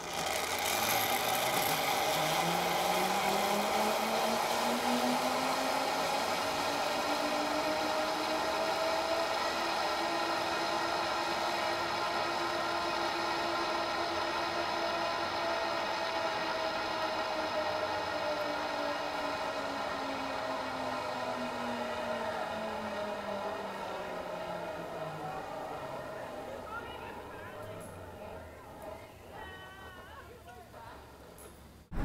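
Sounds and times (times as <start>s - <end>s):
zip line trolley whirring: 0.0s - 32.0s.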